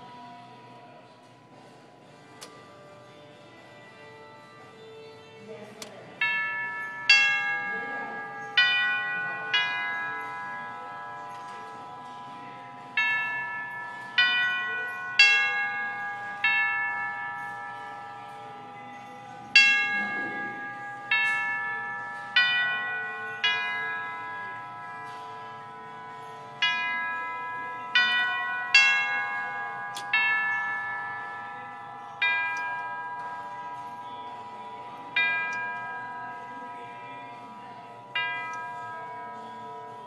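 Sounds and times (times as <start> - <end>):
tubular bell clock chime: 6.2 - 40.0.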